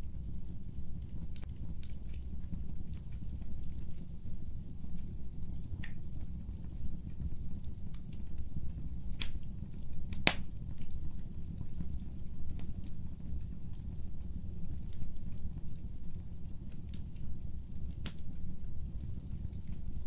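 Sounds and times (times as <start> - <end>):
fire crackling and popping: 0.0 - 20.0
low rumble of flame: 0.0 - 20.0.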